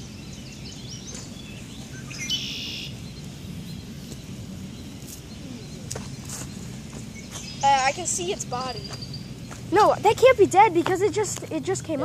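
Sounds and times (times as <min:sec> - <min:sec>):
bird chirps: 0:00.0 - 0:10.5
bird calling: 0:00.0 - 0:12.0
low outdoor rumble: 0:00.0 - 0:12.0.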